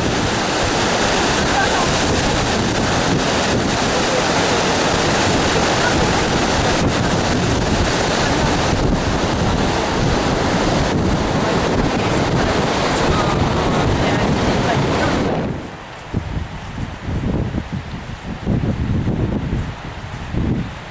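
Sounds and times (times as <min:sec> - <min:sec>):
river water flowing: 0:00.0 - 0:16.8
wind buffeting microphone: 0:00.0 - 0:20.9.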